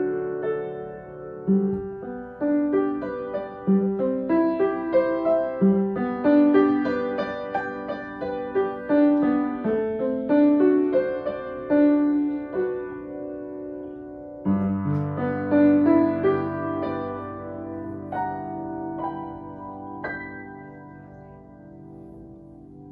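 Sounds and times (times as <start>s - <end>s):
deep bass piano chord: 0.0s - 22.9s
slow piano notes: 0.0s - 22.9s.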